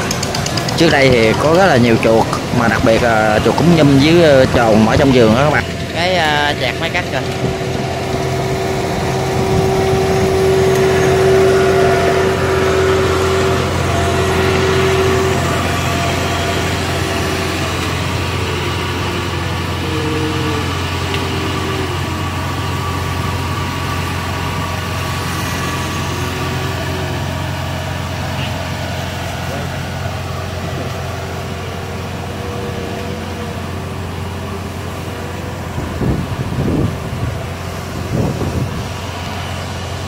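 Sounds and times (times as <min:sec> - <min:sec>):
combine harvester diesel engine: 0:00.0 - 0:40.0
steady whine: 0:00.0 - 0:40.0.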